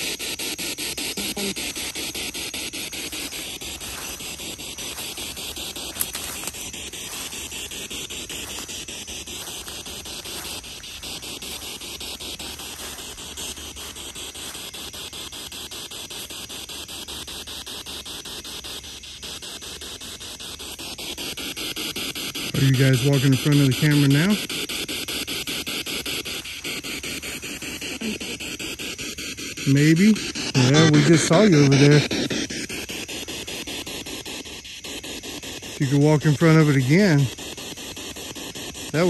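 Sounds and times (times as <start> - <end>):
radio static hiss: 0.0 - 39.0
rapid scanner clicks: 0.0 - 39.0.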